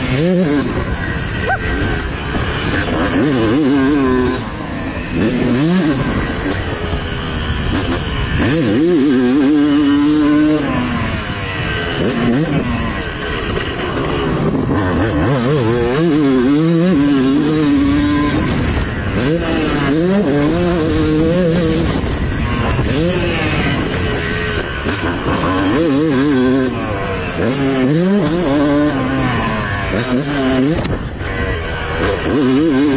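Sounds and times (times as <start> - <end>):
motocross bike engine revving: 0.0 - 32.9.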